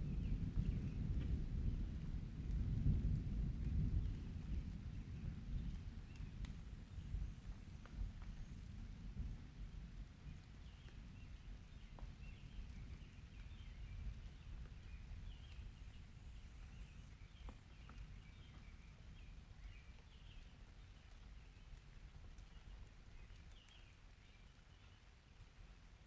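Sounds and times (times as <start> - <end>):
low rumble of rain: 0.0 - 26.0.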